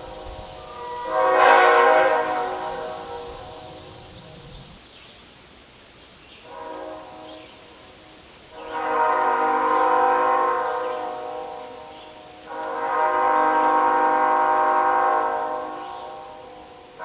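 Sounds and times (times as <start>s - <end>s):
locomotive air horn blasts: 0.0s - 4.8s, 6.4s - 17.0s.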